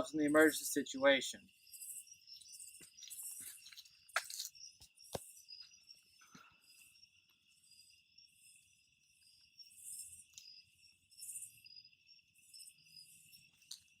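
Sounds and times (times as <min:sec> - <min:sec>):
crickets trilling: 0:00.0 - 0:14.0
high insect buzz: 0:01.4 - 0:14.0.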